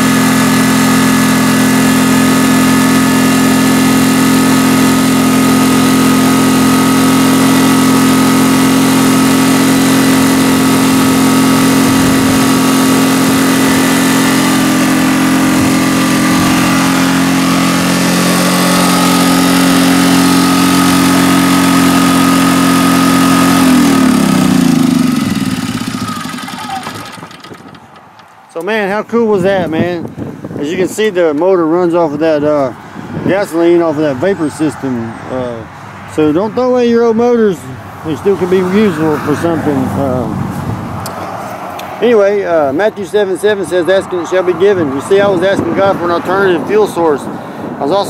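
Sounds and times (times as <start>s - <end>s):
generator engine running: 0.0s - 48.0s.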